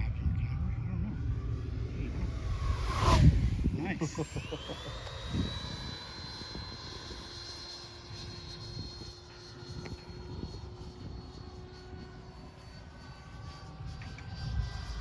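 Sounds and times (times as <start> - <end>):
model jet fan whine: 0.0 - 15.0
wind on microphone: 0.0 - 15.0.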